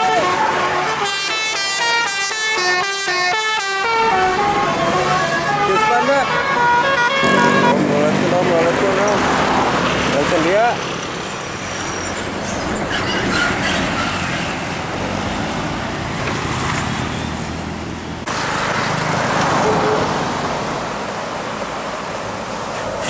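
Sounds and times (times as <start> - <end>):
buses passing: 0.0 - 23.0.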